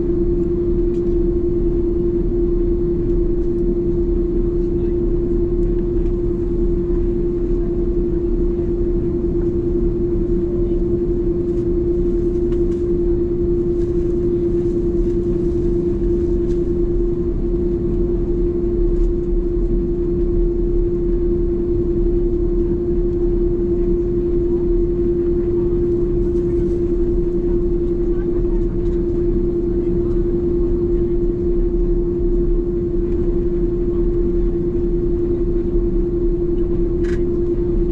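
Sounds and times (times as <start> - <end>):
airliner cabin drone: 0.0 - 37.9.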